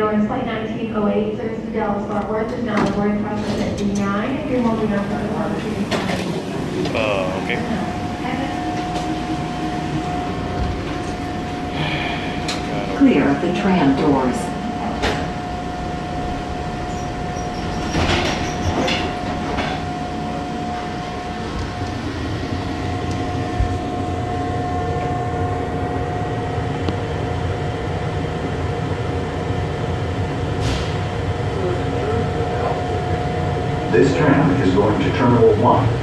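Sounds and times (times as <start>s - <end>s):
tram running with whine: 0.0s - 36.0s.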